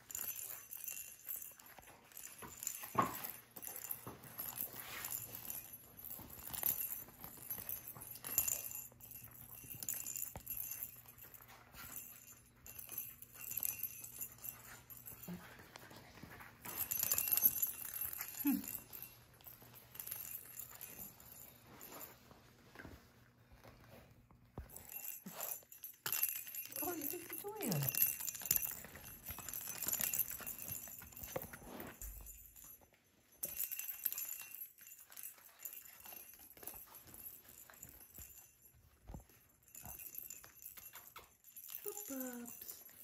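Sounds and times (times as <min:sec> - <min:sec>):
jingle bell in rattle ball: 0:00.0 - 0:23.0, 0:24.6 - 0:43.0.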